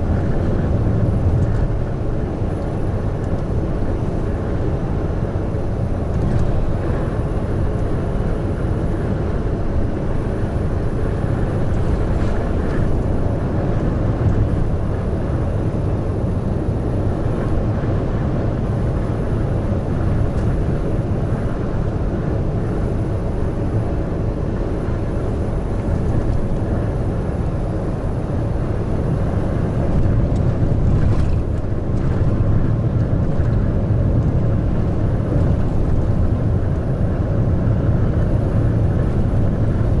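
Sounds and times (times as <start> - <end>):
road noise: 0.0 - 40.0
truck engine drone: 0.0 - 40.0.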